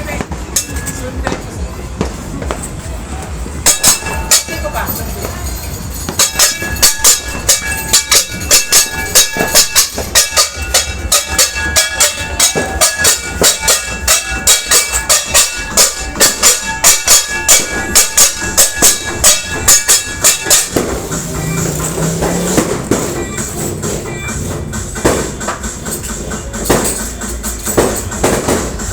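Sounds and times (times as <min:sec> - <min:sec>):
metal being struck clanging: 0:00.5 - 0:01.5, 0:03.6 - 0:28.9.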